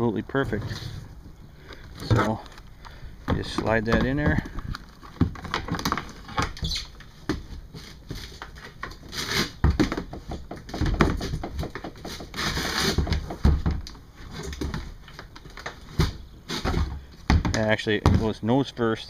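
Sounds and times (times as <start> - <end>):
plastic box knocking and scraping: 1.8 - 2.6, 3.2 - 6.6, 7.2 - 18.4.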